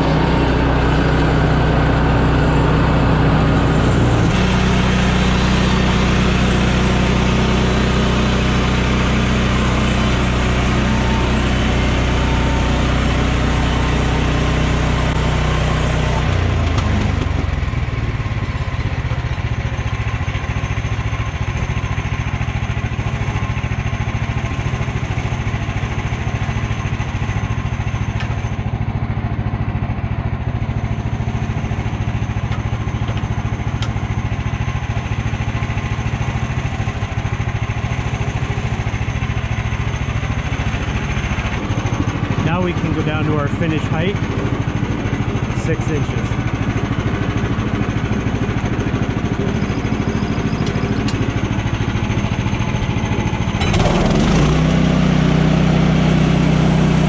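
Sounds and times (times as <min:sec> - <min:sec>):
gasoline engine running: 0:00.0 - 0:57.0.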